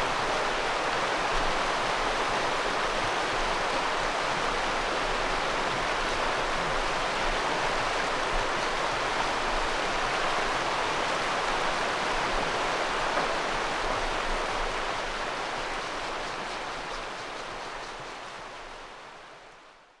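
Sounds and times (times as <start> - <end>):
river water running: 0.0 - 20.0.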